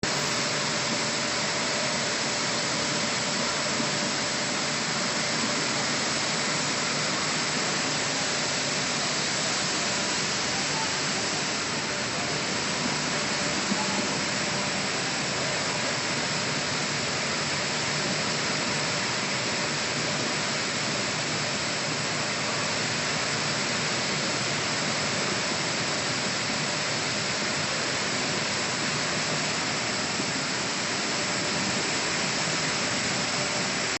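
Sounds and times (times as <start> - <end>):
grain mill hissing: 0.0 - 34.0.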